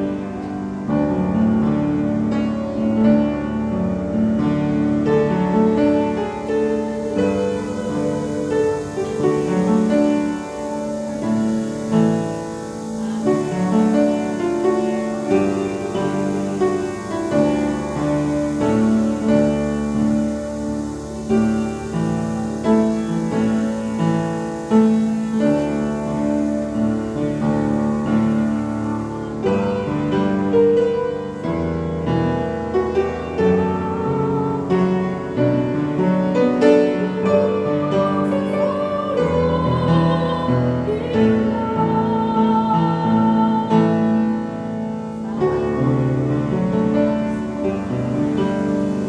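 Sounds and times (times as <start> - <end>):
piano playing slow chords: 0.0 - 49.0.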